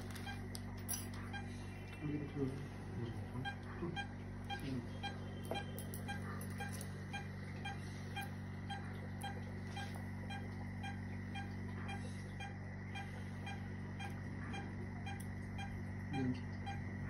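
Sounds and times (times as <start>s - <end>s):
low equipment hum: 0.0s - 17.0s
patient monitor beeping: 0.0s - 17.0s.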